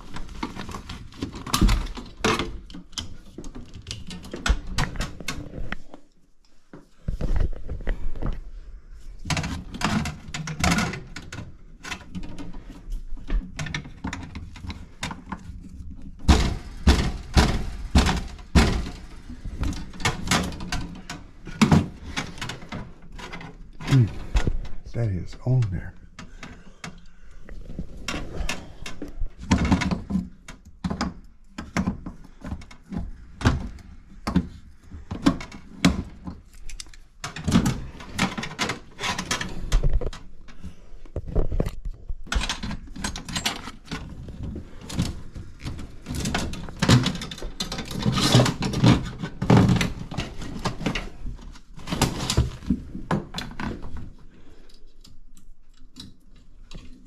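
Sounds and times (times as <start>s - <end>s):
knocks and rattles of tools: 0.0s - 6.1s, 9.0s - 57.0s.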